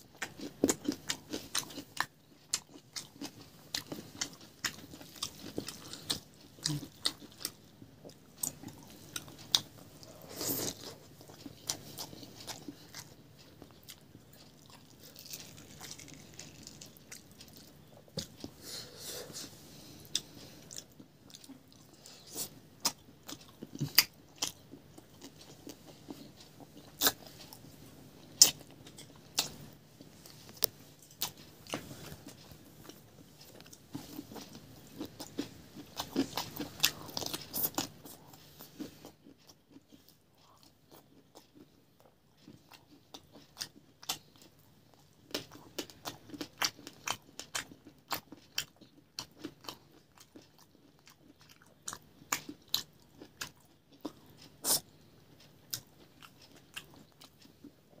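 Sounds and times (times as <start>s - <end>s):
person chewing and crunching: 0.0s - 18.6s, 19.2s - 58.0s.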